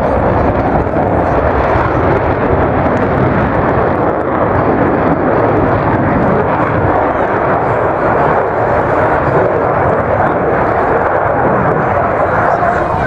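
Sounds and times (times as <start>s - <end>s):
aircraft engine rushing: 0.0s - 13.0s.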